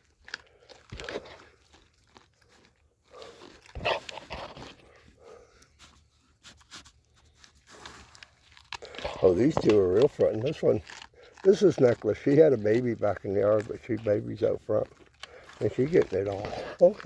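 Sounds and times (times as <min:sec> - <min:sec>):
deer chewing carrots: 0:00.0 - 0:17.0.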